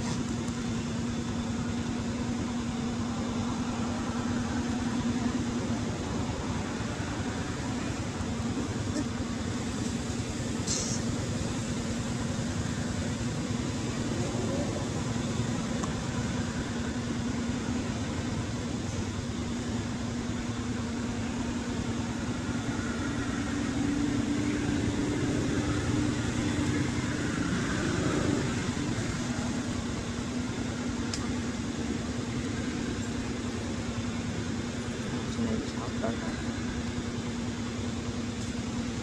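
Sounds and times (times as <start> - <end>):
constant hiss: 0.0 - 39.0.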